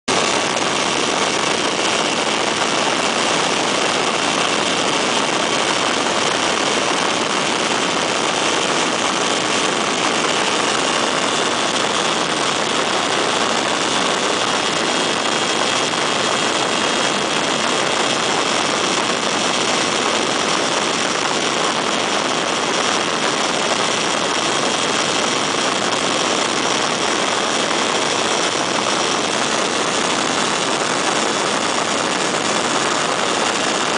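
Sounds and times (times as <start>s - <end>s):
ultralight aircraft engine droning: 0.1s - 33.9s.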